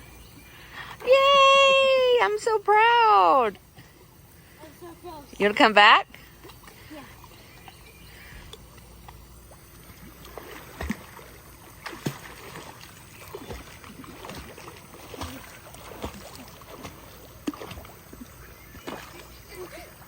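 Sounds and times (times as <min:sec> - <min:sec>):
pool water splashing and lapping: 0:00.0 - 0:20.0.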